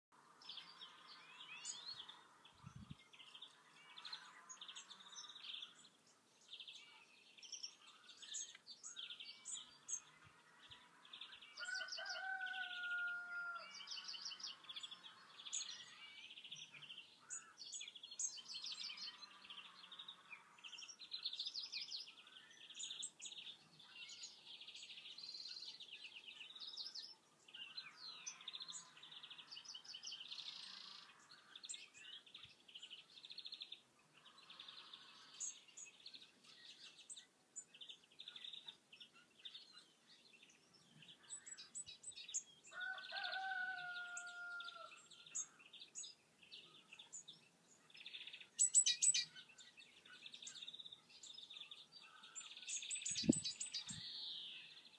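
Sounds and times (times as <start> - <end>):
songbirds chirping: 0.1 - 54.9.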